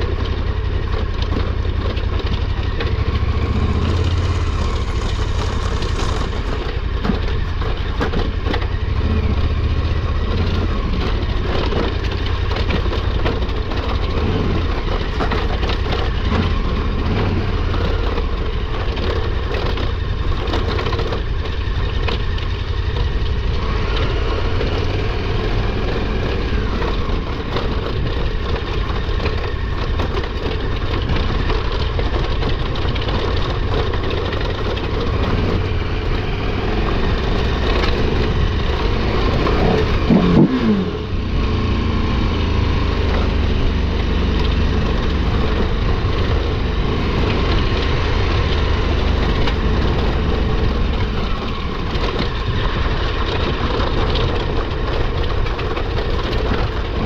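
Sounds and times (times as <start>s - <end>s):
knocks and clatter: 0.0s - 57.0s
motorcycle engine running: 0.0s - 57.0s.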